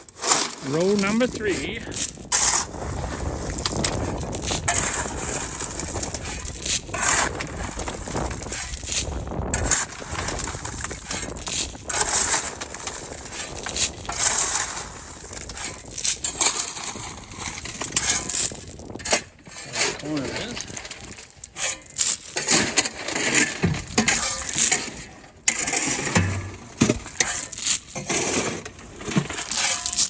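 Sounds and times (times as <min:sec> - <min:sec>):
shovels scraping gravel: 0:00.0 - 0:30.0.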